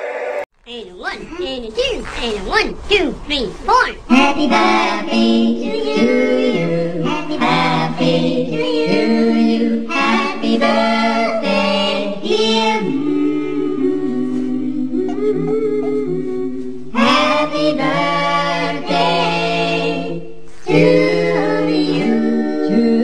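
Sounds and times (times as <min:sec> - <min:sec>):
voices singing in harmony: 0:01.0 - 0:23.0.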